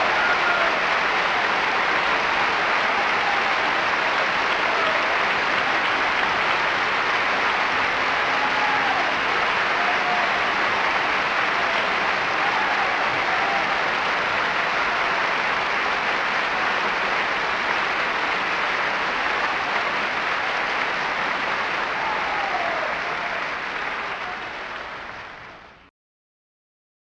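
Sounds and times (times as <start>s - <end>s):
audience applauding: 0.0s - 25.9s.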